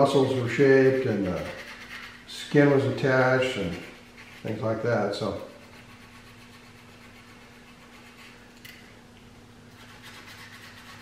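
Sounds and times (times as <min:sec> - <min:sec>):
steady low hum: 0:00.0 - 0:11.0
faint scratches: 0:00.3 - 0:08.4, 0:09.8 - 0:11.0.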